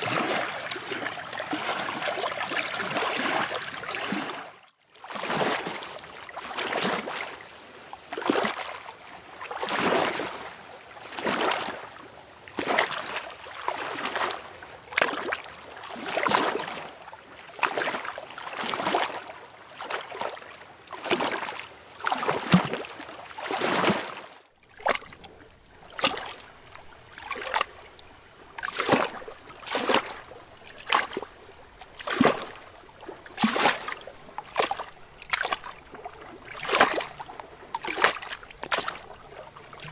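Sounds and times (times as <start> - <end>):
lake water lapping: 0.0 - 39.9.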